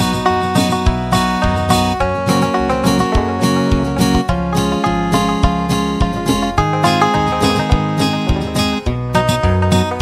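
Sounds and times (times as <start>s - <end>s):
plucked acoustic guitar music: 0.0s - 10.0s.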